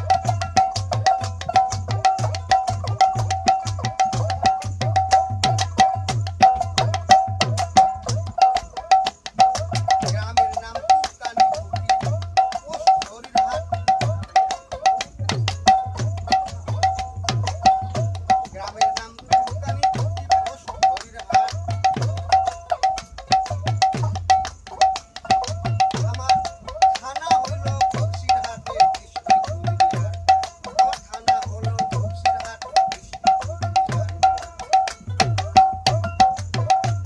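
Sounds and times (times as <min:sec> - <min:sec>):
hand drum playing: 0:00.0 - 0:37.0.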